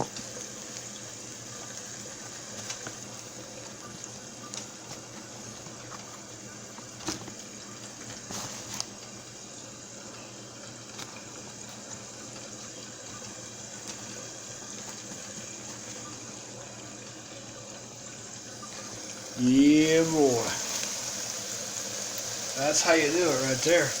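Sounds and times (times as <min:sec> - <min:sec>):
steak sizzling in hot oil: 0:00.0 - 0:16.6, 0:17.7 - 0:24.0.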